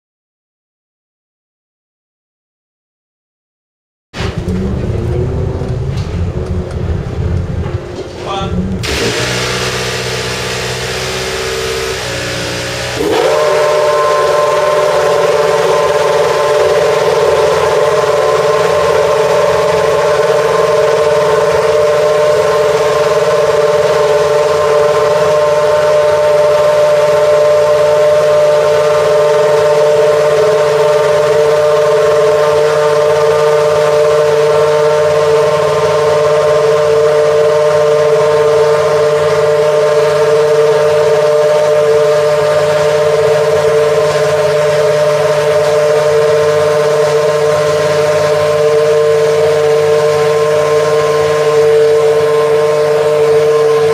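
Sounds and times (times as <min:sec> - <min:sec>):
racing car engine idling: 0:04.2 - 0:53.9.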